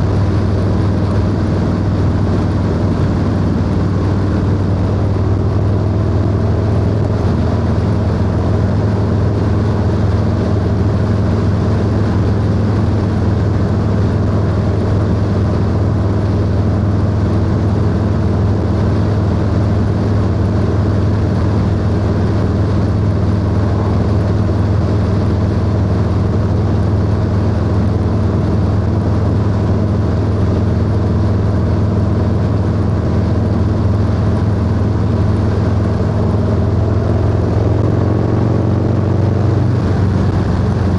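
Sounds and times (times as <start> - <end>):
motorcycle engine cruising drone: 0.0 - 40.9.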